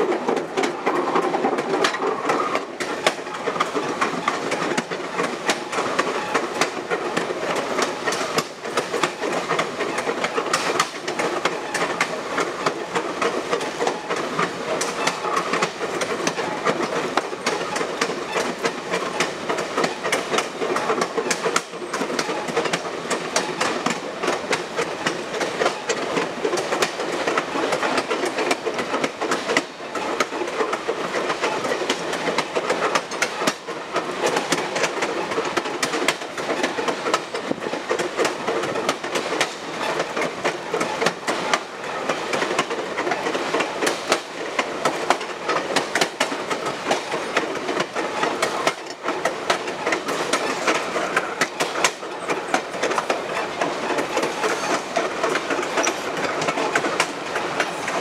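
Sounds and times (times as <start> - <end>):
train car rumbling and rattling: 0.0 - 58.0
wheels clicking on rails: 0.0 - 58.0.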